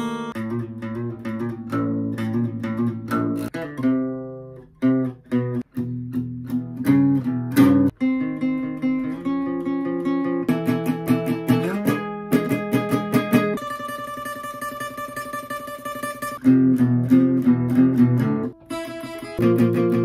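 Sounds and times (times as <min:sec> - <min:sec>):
solo acoustic guitar: 0:00.0 - 0:20.0.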